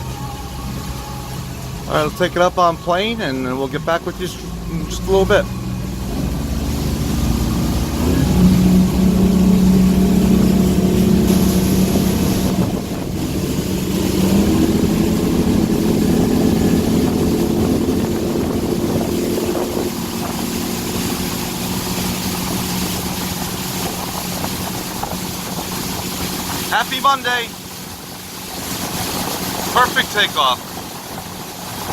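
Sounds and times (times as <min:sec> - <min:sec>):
boat engines accelerating: 0:00.0 - 0:31.9.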